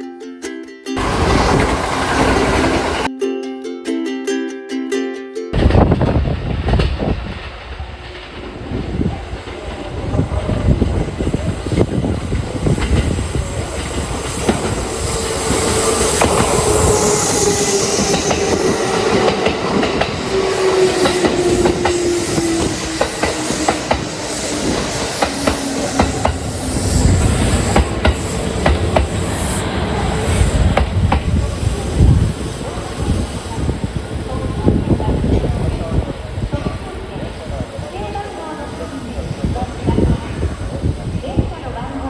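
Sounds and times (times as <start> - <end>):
electric train running past: 1.0 - 3.1, 5.6 - 42.0
wheels clacking over rail joints: 1.0 - 3.1, 5.6 - 37.4.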